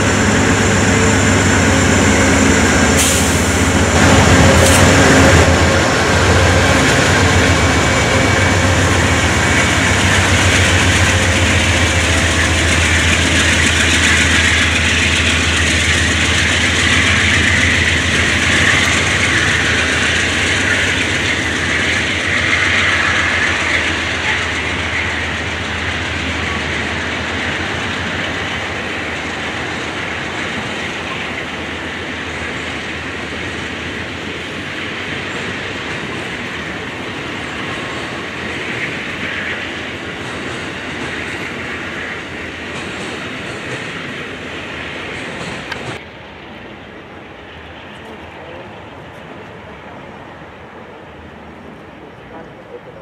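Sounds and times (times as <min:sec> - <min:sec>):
train wheels clicking over rail joints: 0:00.0 - 0:31.5, 0:32.2 - 0:46.1
high hiss from train wheels: 0:00.0 - 0:52.5.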